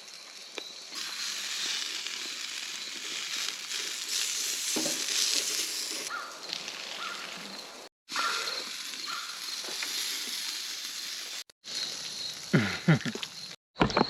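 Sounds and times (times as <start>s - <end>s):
sausages sizzling in a pan: 0.0s - 13.6s.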